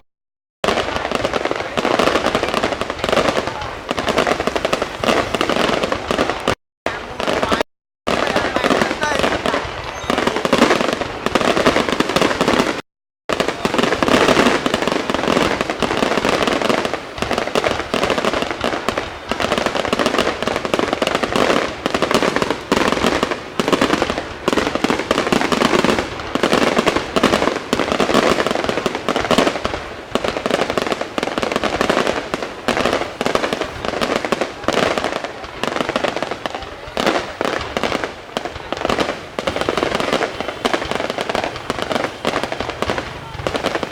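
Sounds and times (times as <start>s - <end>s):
fireworks bangs and crackling: 0.6s - 43.9s.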